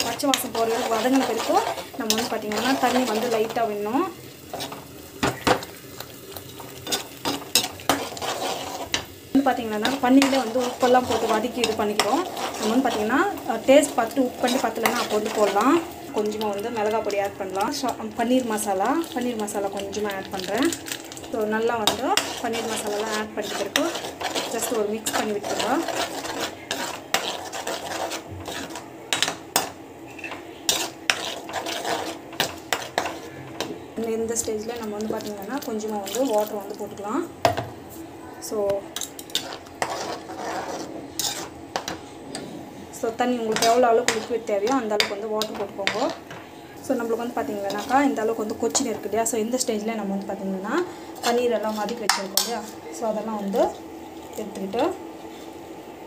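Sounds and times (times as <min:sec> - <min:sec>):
spatula scraping a pan: 0:00.0 - 0:05.7, 0:06.4 - 0:36.7, 0:39.0 - 0:49.0, 0:51.1 - 0:52.8.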